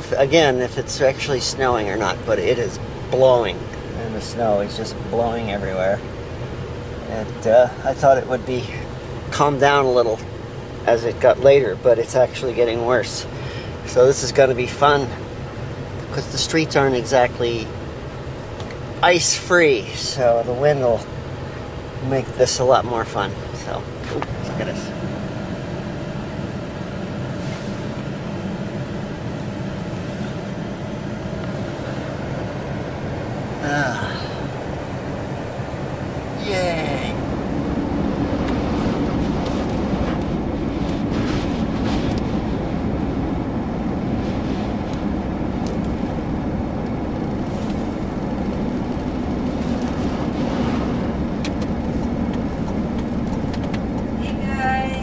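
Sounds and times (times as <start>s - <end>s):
engine and road rumble: 0.0s - 55.0s.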